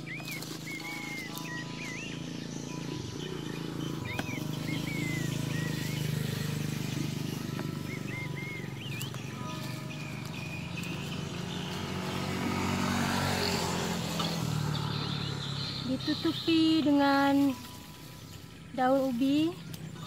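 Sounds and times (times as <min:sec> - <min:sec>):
low engine drone: 0:00.0 - 0:20.0
small birds chirping: 0:00.0 - 0:20.0.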